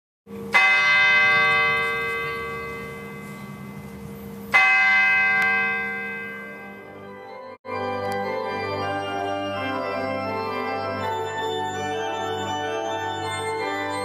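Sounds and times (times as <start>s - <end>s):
large church bell ringing: 0.4s - 14.0s.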